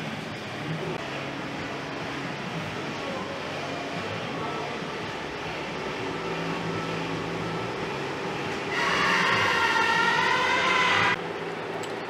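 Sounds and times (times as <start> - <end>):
high-pitched whine: 0.0 - 12.0
workshop background noise: 0.0 - 12.0.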